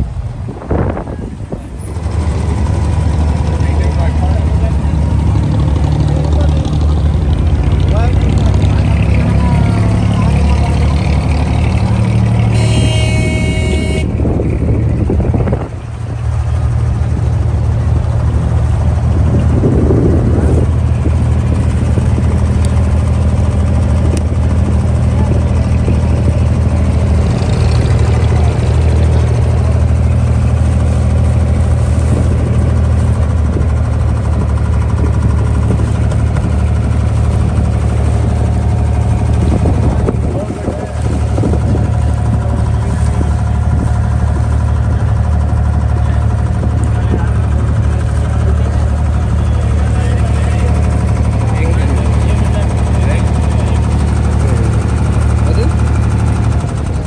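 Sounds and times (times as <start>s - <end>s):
boat diesel engine droning: 0.0s - 57.0s.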